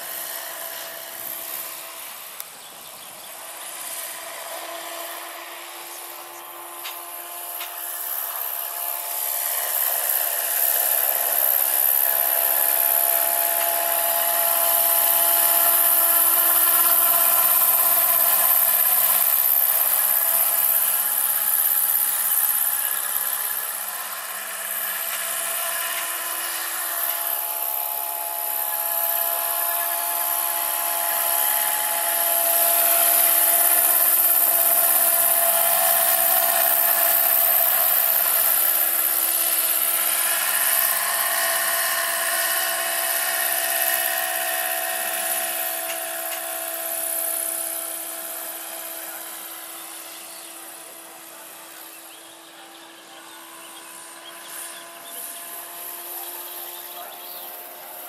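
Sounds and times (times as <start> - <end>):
model helicopter electric motor whine: 0.0 - 58.0.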